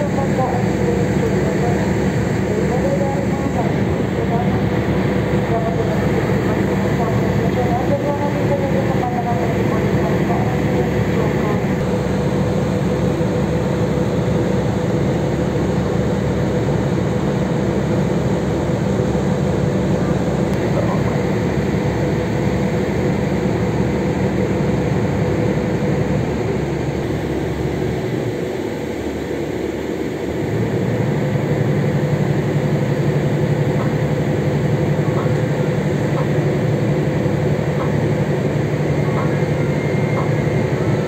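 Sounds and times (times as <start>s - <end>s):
ferry engines droning: 0.0s - 41.0s.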